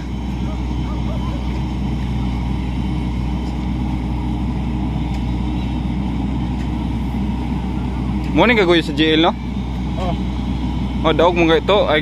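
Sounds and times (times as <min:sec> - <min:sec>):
excavator diesel engine straining: 0:00.0 - 0:12.0.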